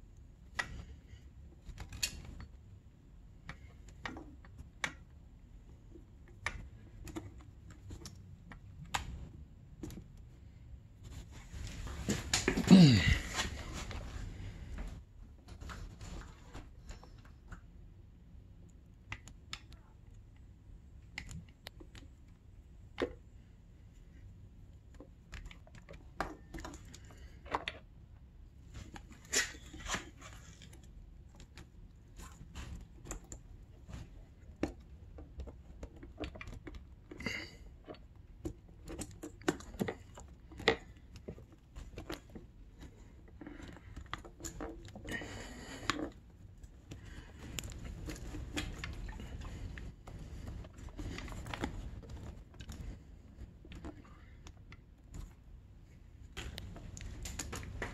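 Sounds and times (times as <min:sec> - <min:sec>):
small clicks taps and rustles: 0:00.0 - 0:12.7, 0:13.4 - 0:57.9.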